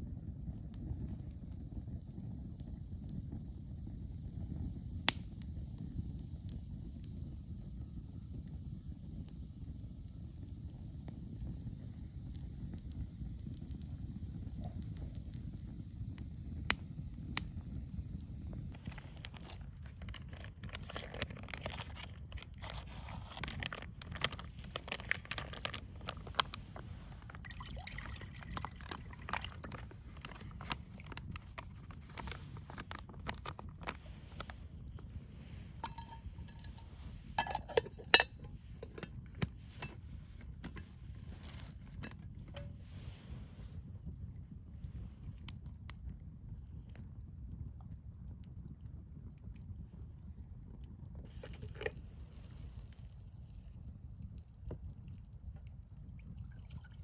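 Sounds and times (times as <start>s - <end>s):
low steady rumble: 0.0s - 57.0s
crackles and small clicks: 0.5s - 57.0s.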